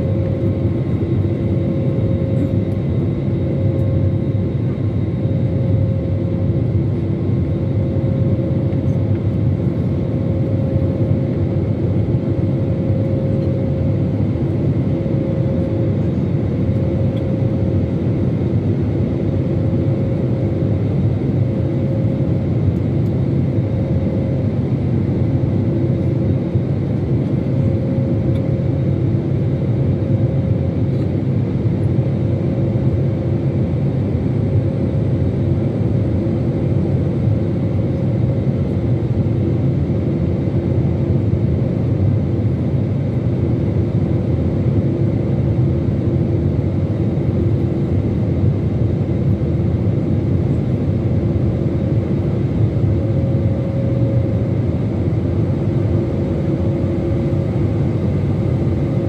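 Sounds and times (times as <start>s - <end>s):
airliner cabin roar: 0.0s - 59.0s
faint jet engine hum: 0.0s - 59.0s.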